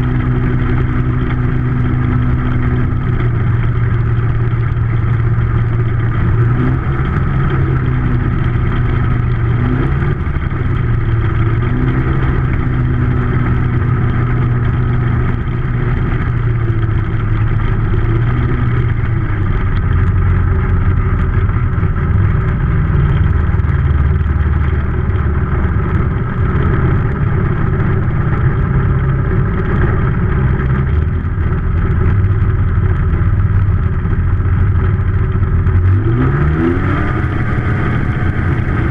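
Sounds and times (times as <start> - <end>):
ultralight aircraft engine and propeller: 0.0 - 38.9.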